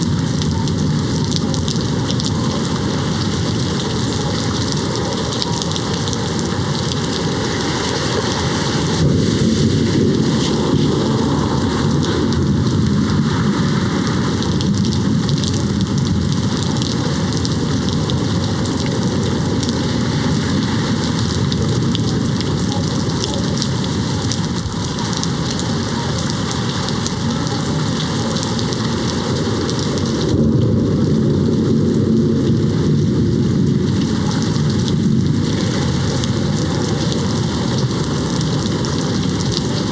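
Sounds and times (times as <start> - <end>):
low thunder rumbling: 0.0 - 39.9
rain hitting a window: 0.0 - 39.9.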